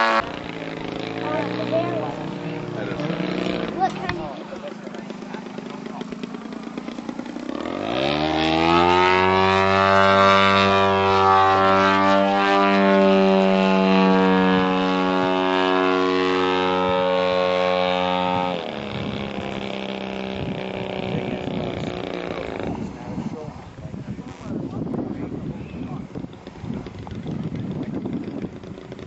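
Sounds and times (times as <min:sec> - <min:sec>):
model airplane engine revving: 0:00.0 - 0:29.0.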